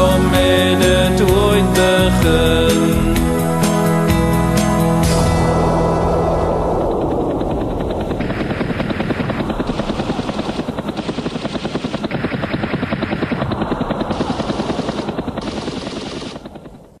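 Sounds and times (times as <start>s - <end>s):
helicopter rotor beating: 0.0s - 17.0s.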